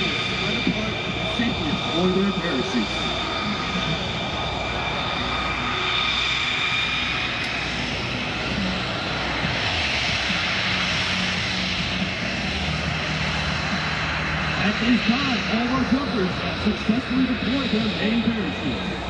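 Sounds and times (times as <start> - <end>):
jet engines roaring overhead: 0.0 - 19.0.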